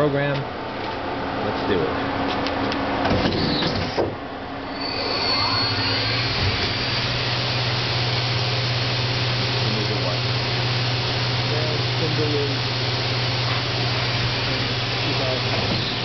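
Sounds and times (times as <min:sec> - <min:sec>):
machine whine and running hum: 0:00.0 - 0:16.0.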